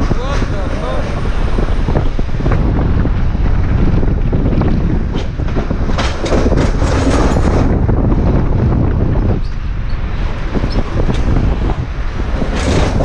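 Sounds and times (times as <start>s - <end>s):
cable car running: 0.0s - 13.0s
wind buffeting microphone: 0.0s - 13.0s.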